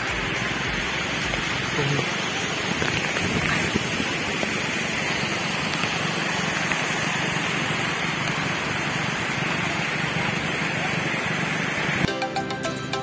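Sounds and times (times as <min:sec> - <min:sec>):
engine hum: 0:00.0 - 0:13.0
tyres hissing on wet road: 0:00.0 - 0:13.0.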